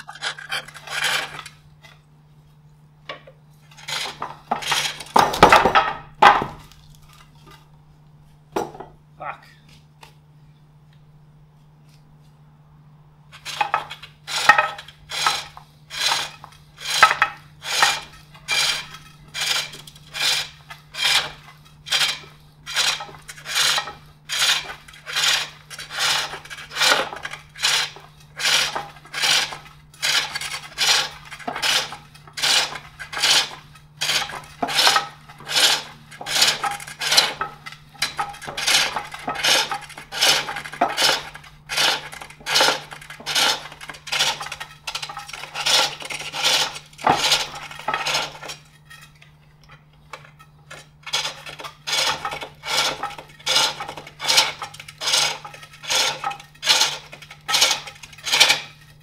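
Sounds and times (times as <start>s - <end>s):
hook tool rasping wood on lathe: 0.0s - 1.6s, 3.7s - 5.6s, 13.4s - 49.1s, 50.2s - 59.0s.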